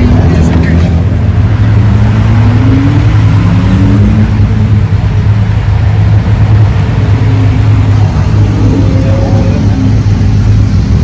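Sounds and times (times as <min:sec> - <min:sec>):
car engine accelerating: 0:00.0 - 0:11.0
steady low drone: 0:00.0 - 0:11.0.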